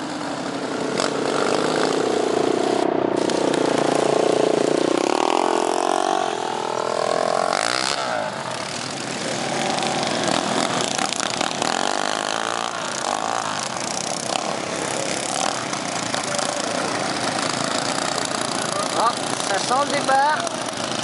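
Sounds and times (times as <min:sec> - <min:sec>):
lawn mower engines racing: 0:00.0 - 0:21.0.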